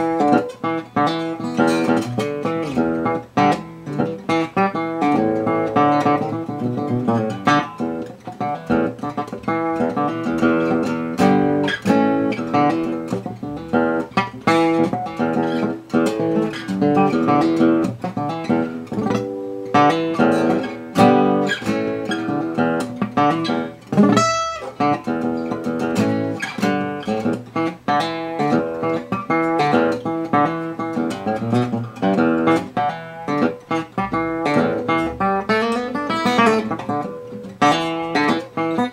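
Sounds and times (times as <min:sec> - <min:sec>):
acoustic guitar playing: 0:00.0 - 0:38.9.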